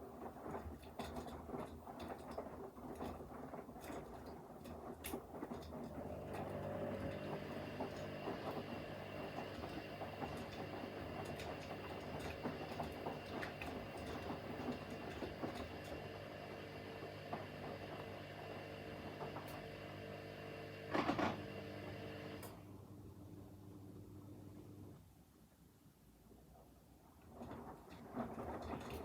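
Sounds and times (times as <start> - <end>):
washing machine motor hum: 0.0 - 25.1.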